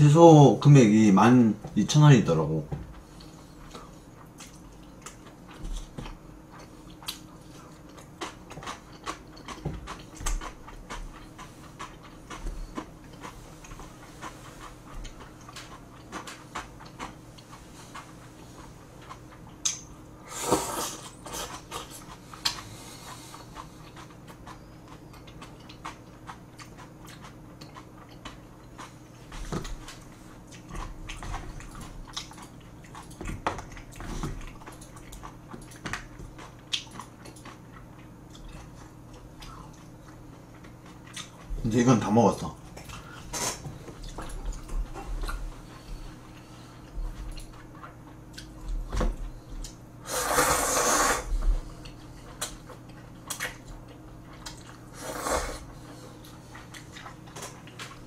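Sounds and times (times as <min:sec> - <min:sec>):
faint steady hum: 0:00.0 - 0:58.0
person chewing: 0:02.9 - 0:41.7, 0:42.6 - 0:58.0.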